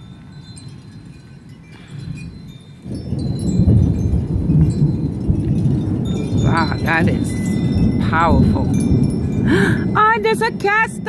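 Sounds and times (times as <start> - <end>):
thunder rumbling: 0.0 - 11.0
wind chimes ringing: 0.0 - 11.0.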